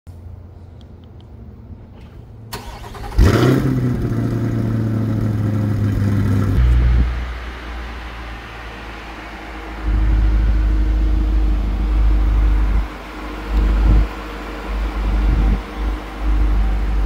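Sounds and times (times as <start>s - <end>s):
car engine starting and idling: 0.3s - 17.0s.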